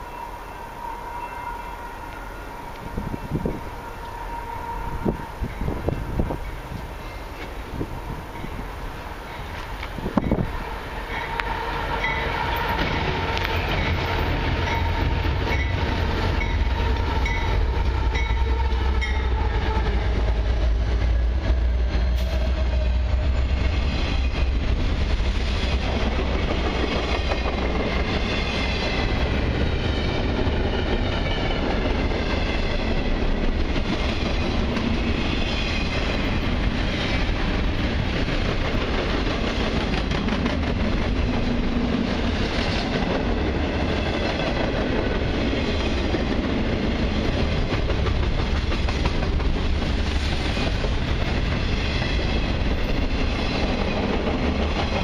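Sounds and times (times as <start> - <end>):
wheel and rail noise: 0.0 - 55.0.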